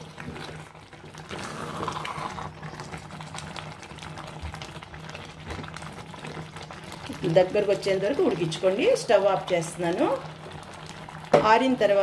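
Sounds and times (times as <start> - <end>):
jam bubbling and popping: 0.0 - 12.0.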